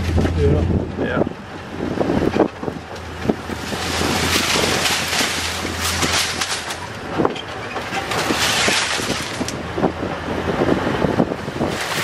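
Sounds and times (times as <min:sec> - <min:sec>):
low engine hum: 0:00.0 - 0:12.0
vehicle knocks and rattles: 0:00.0 - 0:12.0
wind buffeting microphone: 0:00.0 - 0:12.0.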